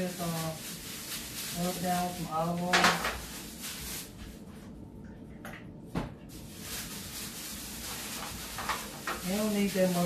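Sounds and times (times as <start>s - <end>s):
steady low hum: 0.2s - 9.2s.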